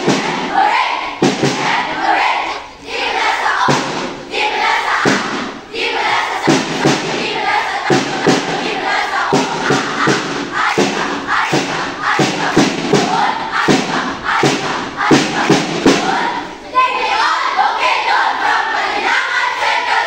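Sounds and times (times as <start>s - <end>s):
children chanting together: 0.0s - 20.0s.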